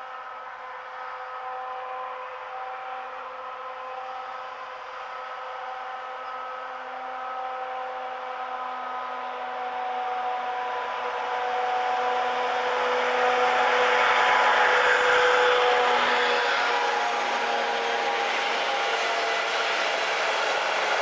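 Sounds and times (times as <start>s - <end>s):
diesel locomotive engine droning: 0.0s - 21.0s.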